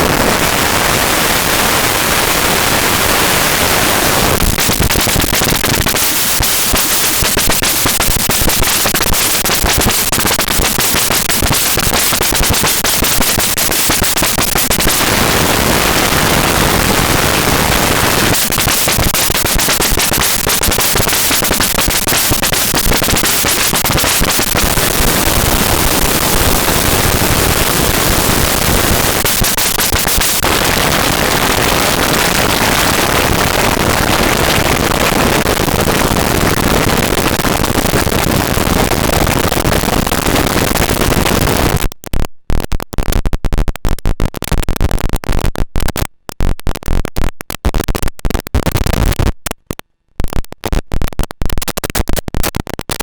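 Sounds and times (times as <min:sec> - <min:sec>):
harsh synthesizer noise with clicks: 0:00.0 - 0:53.0.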